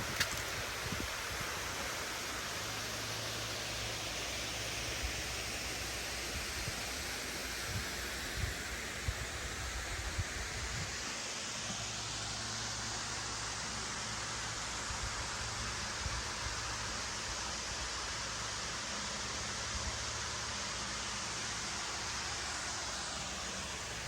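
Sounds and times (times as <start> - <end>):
steady rushing outdoor noise: 0.0 - 24.0.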